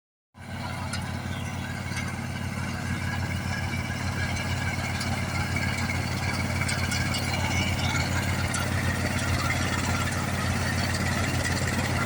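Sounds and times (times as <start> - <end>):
combine harvester diesel engine: 0.4 - 12.0.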